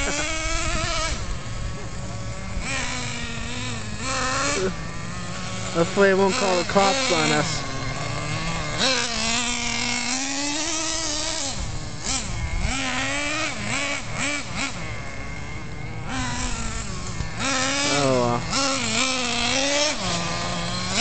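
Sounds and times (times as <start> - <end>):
nitro engine buzzing and revving: 0.0 - 21.0.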